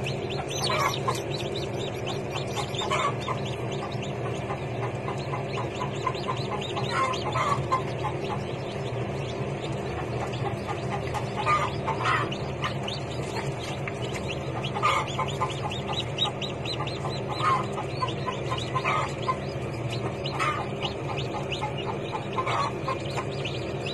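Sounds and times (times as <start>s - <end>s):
chicks peeping: 0.0s - 23.9s
steady low hum: 0.0s - 23.9s.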